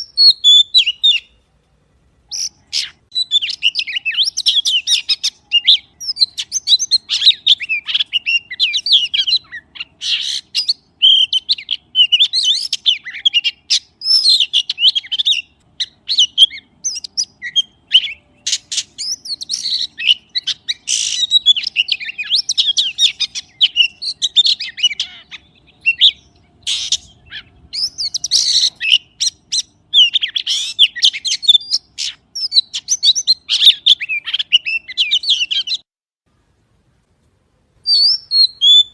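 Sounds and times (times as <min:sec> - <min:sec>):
magpie chirps and whistles: 0:00.0 - 0:01.4, 0:02.3 - 0:35.8, 0:37.8 - 0:38.9.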